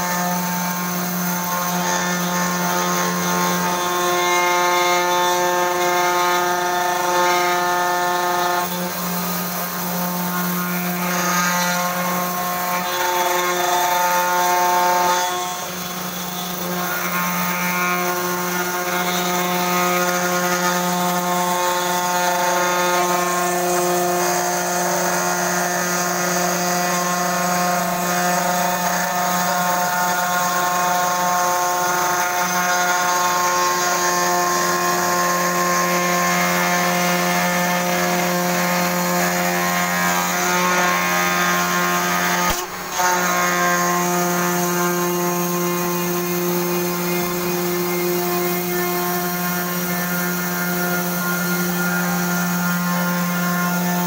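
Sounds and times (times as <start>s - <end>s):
router spindle milling: 0.0s - 54.0s.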